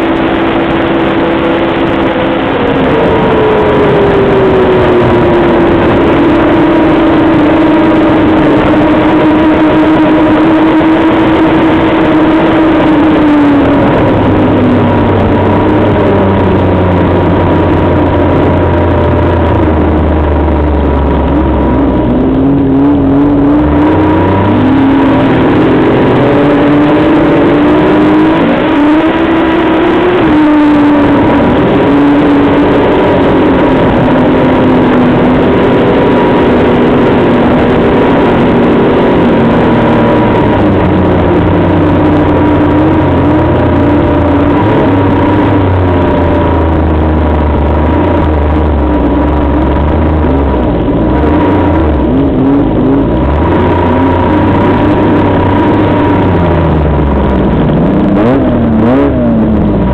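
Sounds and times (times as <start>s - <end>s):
low rumble: 0.0s - 59.9s
rush of noise: 0.0s - 59.9s
snowmobile engine running: 0.0s - 59.9s
steady whine: 0.0s - 59.9s.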